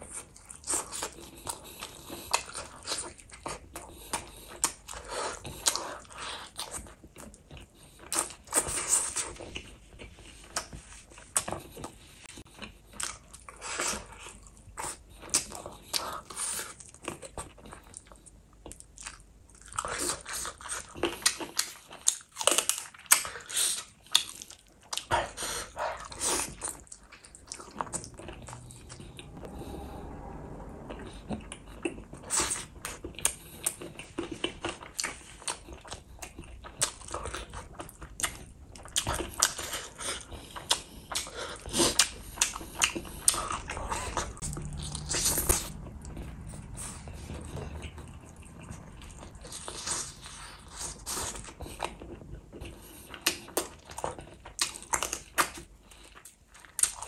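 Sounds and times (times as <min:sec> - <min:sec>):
person chewing food: 0:00.0 - 0:29.4, 0:31.4 - 0:57.0.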